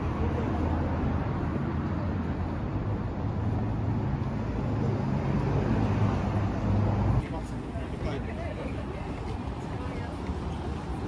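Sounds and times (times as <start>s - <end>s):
low hum of road traffic: 0.0s - 11.0s.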